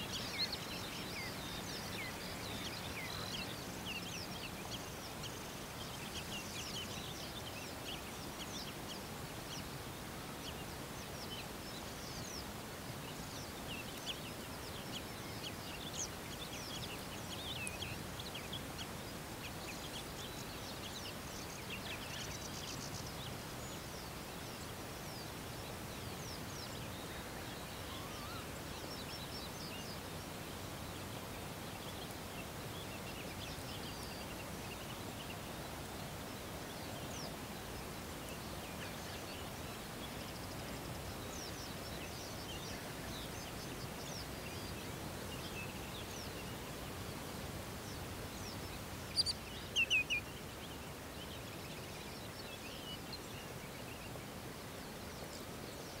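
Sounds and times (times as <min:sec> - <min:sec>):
birds chirping: 0:00.0 - 0:56.0
outdoor hiss: 0:00.0 - 0:56.0.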